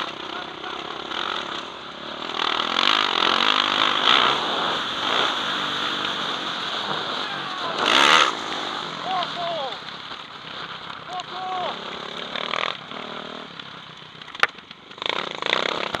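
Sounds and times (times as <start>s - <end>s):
motocross bike engine revving: 0.0s - 14.0s, 14.8s - 16.0s
passing motocross bike: 0.0s - 16.0s.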